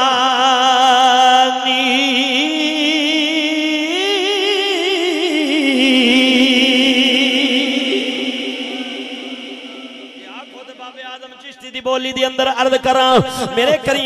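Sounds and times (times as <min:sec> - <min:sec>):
man singing a long held note: 0:00.0 - 0:12.2.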